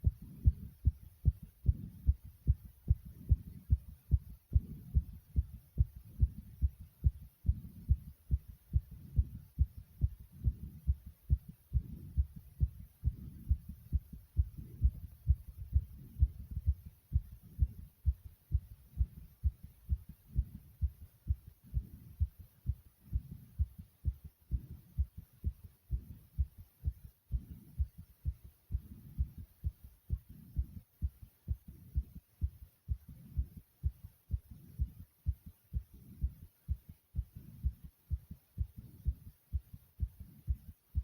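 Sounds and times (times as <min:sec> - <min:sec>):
fast heartbeat thumps: 0:00.0 - 0:41.0.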